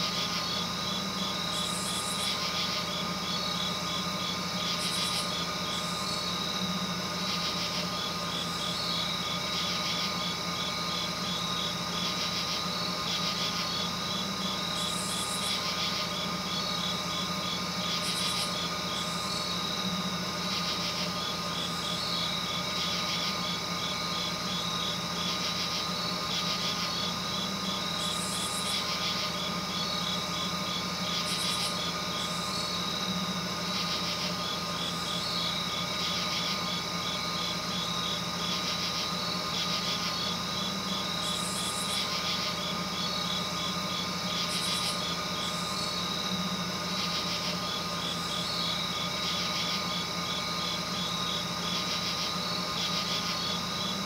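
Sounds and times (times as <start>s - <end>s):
buzzy insect trills: 0.0s - 54.0s
constant low hum: 0.0s - 54.0s
insects chirping: 0.0s - 54.0s.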